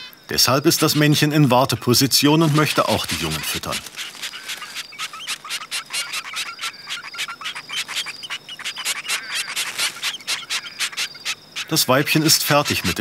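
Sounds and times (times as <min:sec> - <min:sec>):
nestlings chirping: 0:00.0 - 0:13.0.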